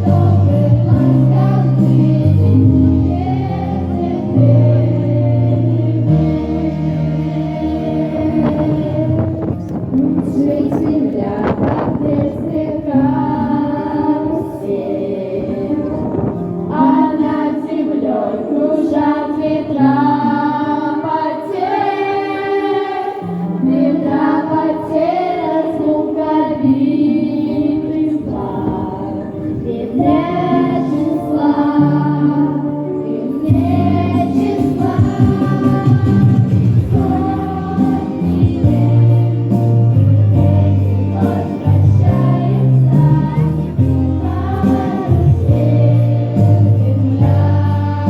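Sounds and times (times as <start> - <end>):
girls' choir singing: 0.0 - 48.0
instrumental accompaniment: 0.0 - 48.0.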